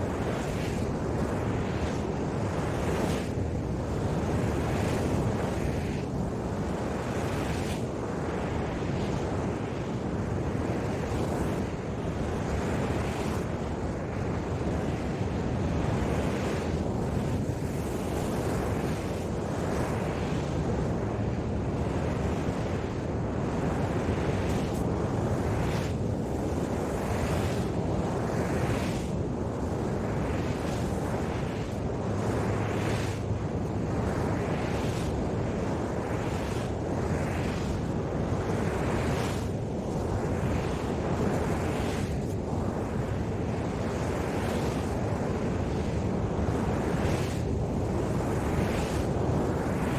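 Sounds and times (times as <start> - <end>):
wind rumbling on microphone: 0.0 - 49.9.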